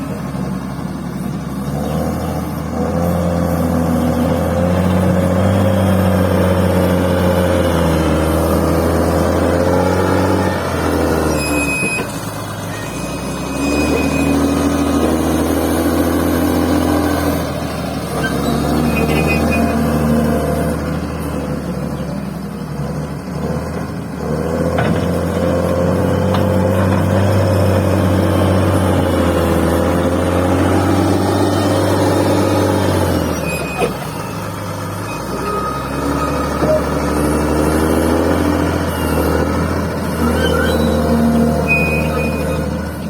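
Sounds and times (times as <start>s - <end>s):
bulldozer diesel engine: 0.0s - 43.0s.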